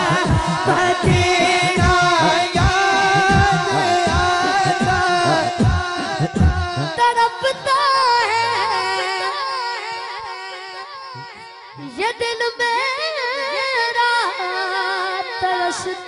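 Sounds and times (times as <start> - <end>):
boy singing into a microphone: 0.0 - 16.0.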